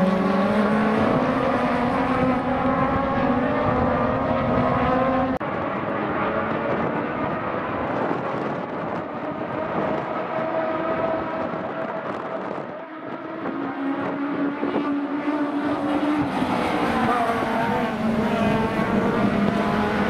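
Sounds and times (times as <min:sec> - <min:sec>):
distant race car engines: 0:00.0 - 0:20.0
race car engine at high revs: 0:00.0 - 0:20.0.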